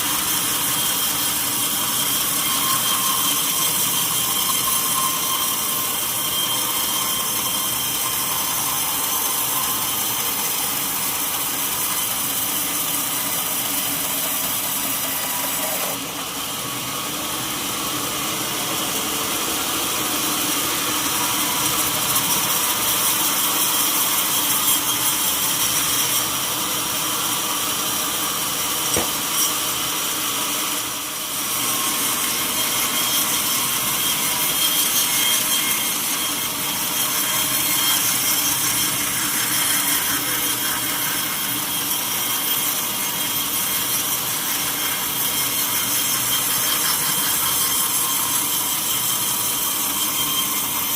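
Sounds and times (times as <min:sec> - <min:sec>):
sawmill saw cutting log: 0:00.0 - 0:50.9.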